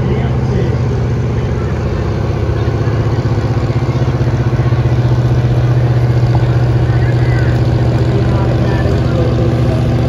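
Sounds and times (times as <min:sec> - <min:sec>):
pickup truck engine under heavy load: 0:00.0 - 0:10.0.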